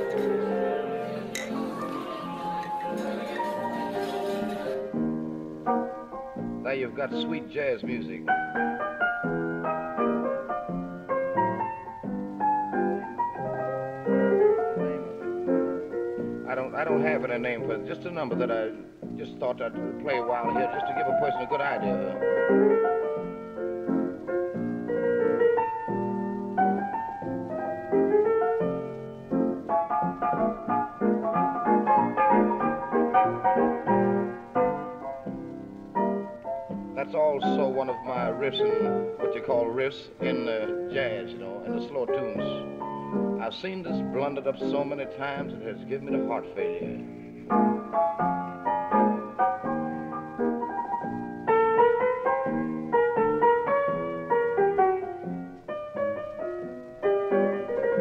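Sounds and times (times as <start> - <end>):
slow solo piano: 0.0 - 58.0.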